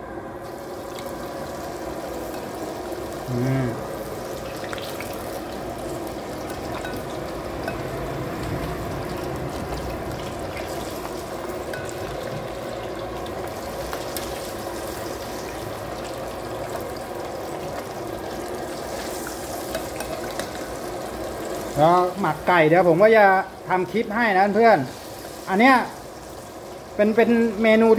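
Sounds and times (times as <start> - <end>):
deep-frying oil sizzling: 0.0 - 27.9.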